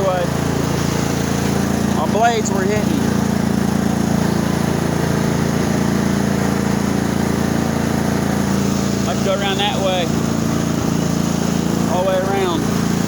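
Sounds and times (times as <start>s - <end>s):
riding lawn mower engine running: 0.0s - 13.0s.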